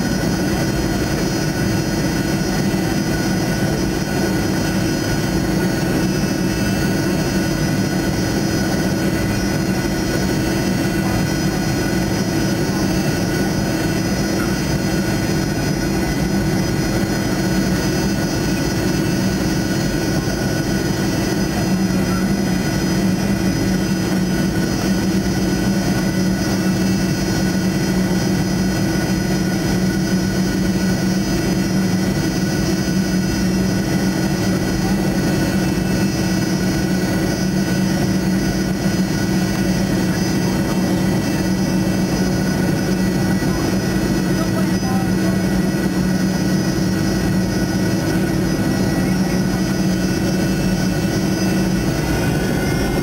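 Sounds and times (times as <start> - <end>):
high engine whine: 0.0 - 53.0
jet engine humming: 0.0 - 53.0.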